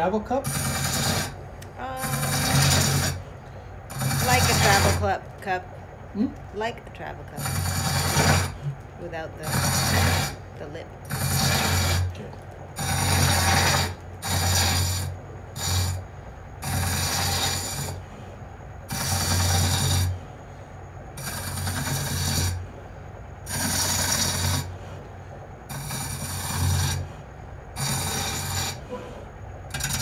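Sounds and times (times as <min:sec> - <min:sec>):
lathe tool scraping wood: 0:00.0 - 0:06.0, 0:06.6 - 0:30.0.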